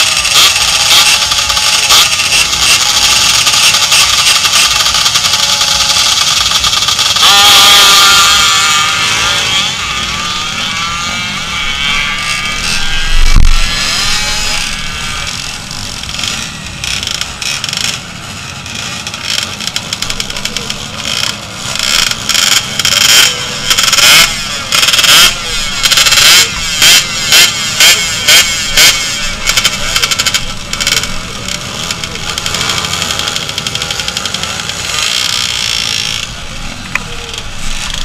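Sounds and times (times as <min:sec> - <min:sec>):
motorcycle engines running: 0:00.0 - 0:38.0.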